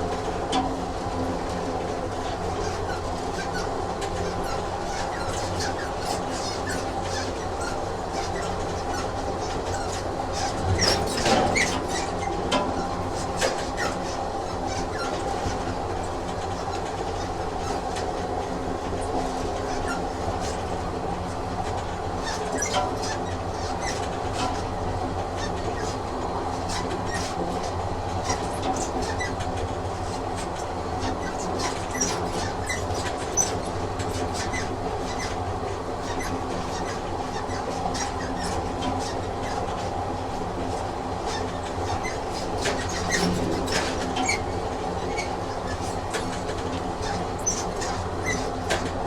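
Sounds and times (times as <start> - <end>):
train carriage rumbling on track: 0.0 - 49.0.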